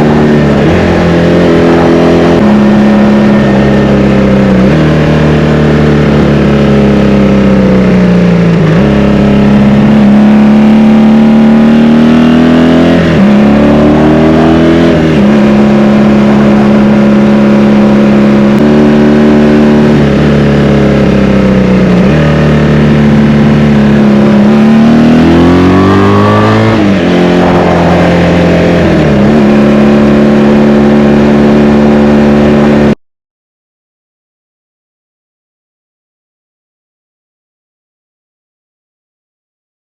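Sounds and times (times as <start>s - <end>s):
motorcycle engine revving in tunnel: 0.0s - 33.0s.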